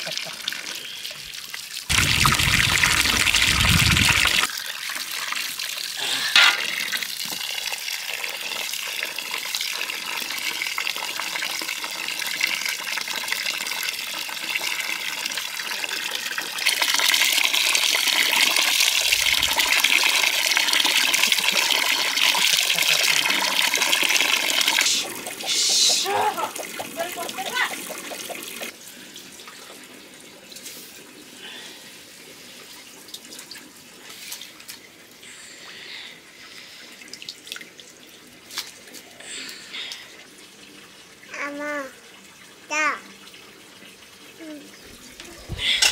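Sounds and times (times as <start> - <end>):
water pouring and splashing: 0.0 - 45.9.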